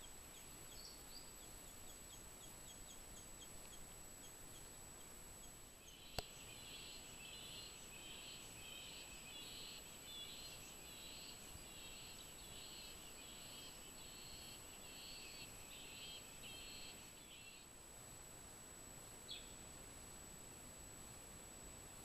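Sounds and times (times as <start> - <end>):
high wildlife chirping call: 0.0 - 17.7.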